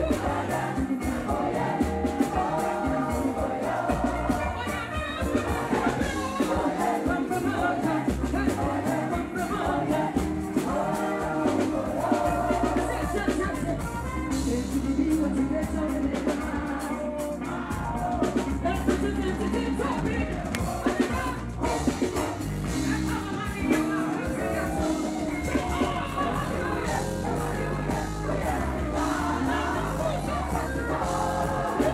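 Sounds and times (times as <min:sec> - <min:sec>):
backing singers: 0:00.0 - 0:31.9
bass: 0:00.0 - 0:31.9
drums: 0:00.0 - 0:31.9
woman singing lead: 0:00.0 - 0:31.9.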